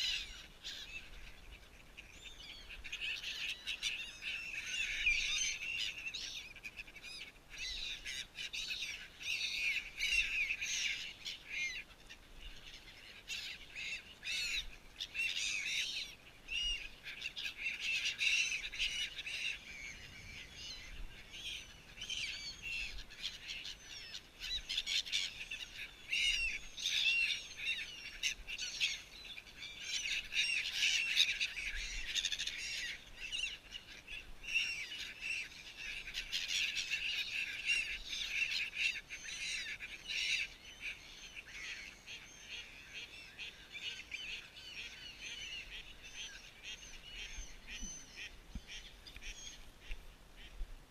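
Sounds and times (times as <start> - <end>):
flock of gulls calling: 0.0 - 50.9.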